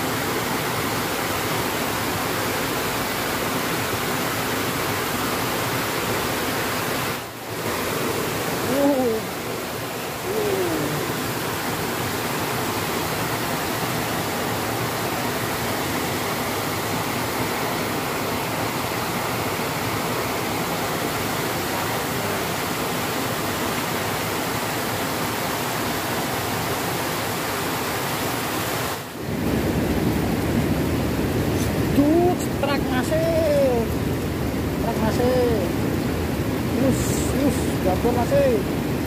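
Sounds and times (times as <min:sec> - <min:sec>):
small waterfall rushing: 0:00.0 - 0:39.0.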